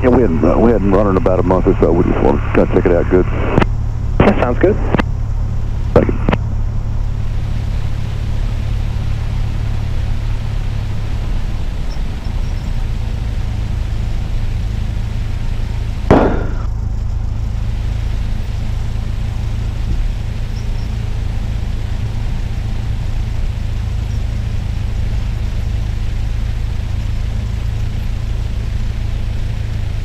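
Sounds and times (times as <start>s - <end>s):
propeller plane engine droning: 0.0s - 30.0s.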